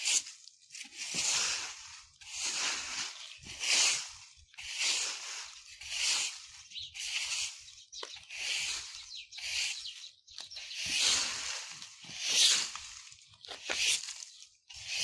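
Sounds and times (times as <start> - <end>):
broom sweeping dry leaves: 0.0 - 15.0.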